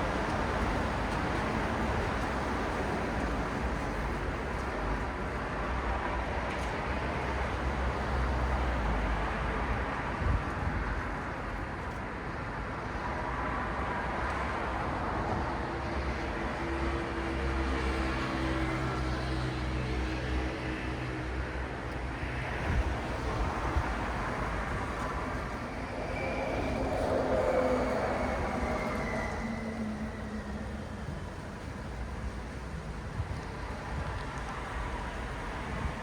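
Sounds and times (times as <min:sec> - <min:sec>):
road traffic passing: 0:00.0 - 0:36.0.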